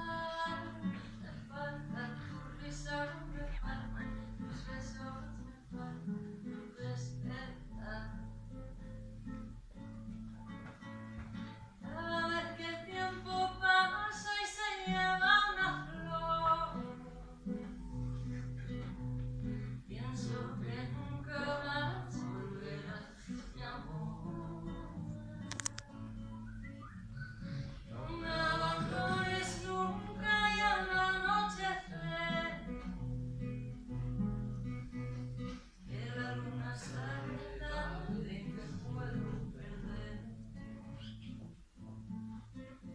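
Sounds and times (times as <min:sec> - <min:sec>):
acoustic guitar playing: 0:00.0 - 0:42.9.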